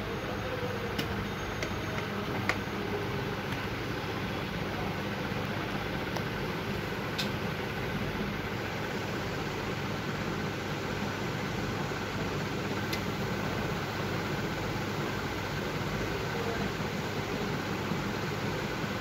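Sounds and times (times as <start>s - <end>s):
machinery hum and hiss: 0.0s - 19.0s.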